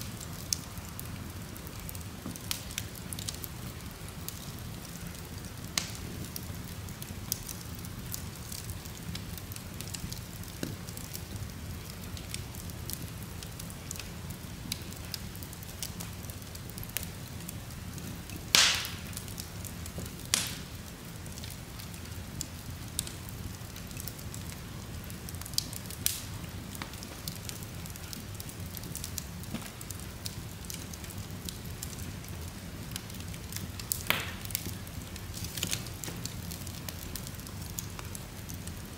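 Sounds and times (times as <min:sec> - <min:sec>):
fire crackles and pops: 0:00.0 - 0:38.9
fire low rumble: 0:00.0 - 0:38.9.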